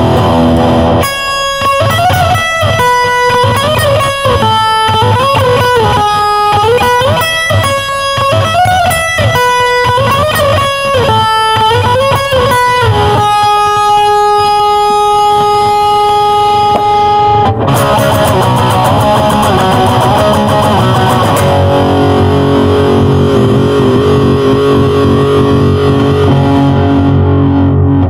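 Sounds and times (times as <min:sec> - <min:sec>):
distorted electric guitar chords: 0:00.0 - 0:28.0.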